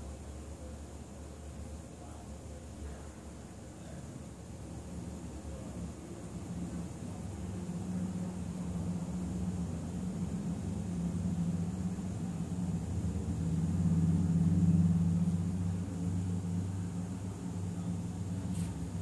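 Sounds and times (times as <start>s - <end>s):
low droning hum: 2.0s - 19.0s.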